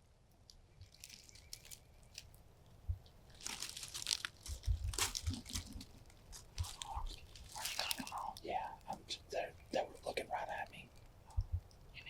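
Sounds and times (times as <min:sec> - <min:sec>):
crunching crinkling rustle: 0:00.4 - 0:12.0.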